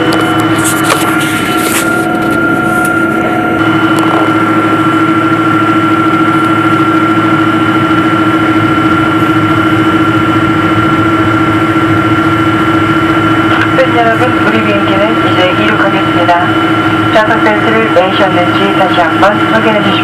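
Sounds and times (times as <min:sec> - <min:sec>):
whining tones: 0:00.0 - 0:19.5
jet engine cabin hum: 0:00.0 - 0:20.0.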